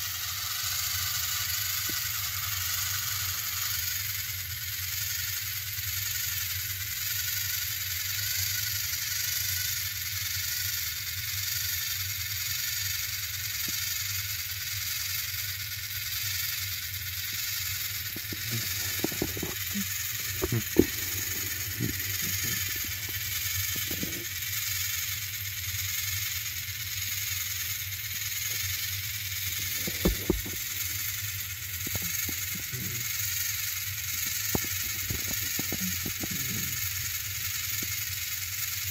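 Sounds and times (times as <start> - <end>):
toy train motors whirring: 0.0 - 38.9.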